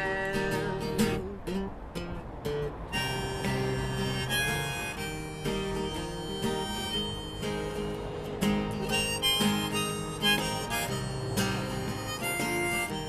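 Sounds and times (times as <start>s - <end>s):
harmonica playing: 0.0s - 1.3s, 2.6s - 13.0s
strummed acoustic guitar: 0.0s - 13.0s.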